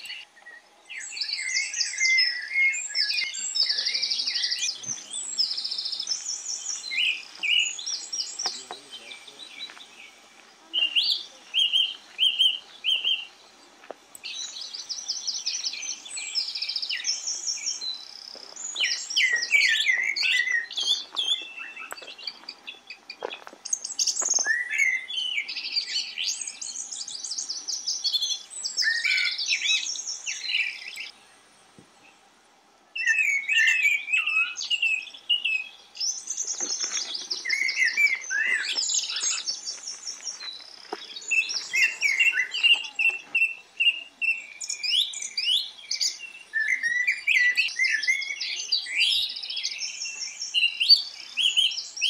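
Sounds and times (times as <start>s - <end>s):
songbirds chirping and singing: 0.0s - 52.0s.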